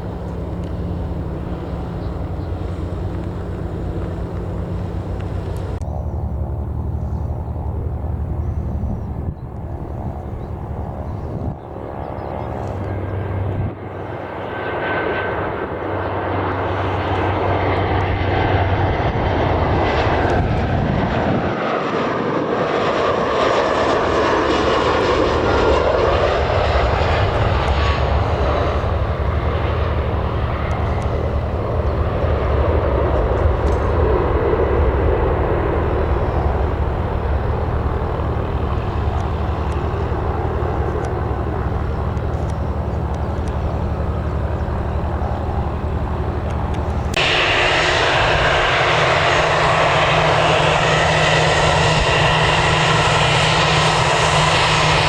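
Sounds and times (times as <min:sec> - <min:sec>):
aircraft engines passing: 0:00.0 - 0:55.0.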